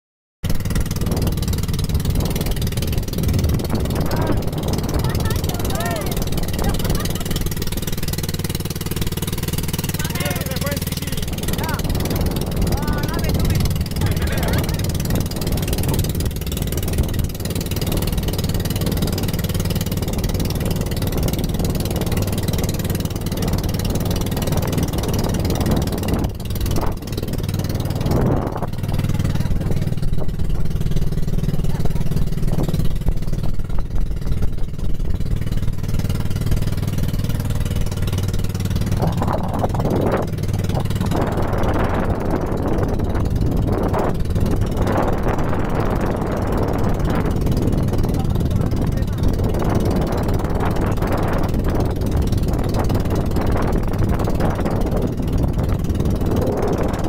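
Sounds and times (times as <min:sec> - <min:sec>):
boat engine droning: 0:00.4 - 0:57.0
water rushing past hull: 0:00.4 - 0:57.0.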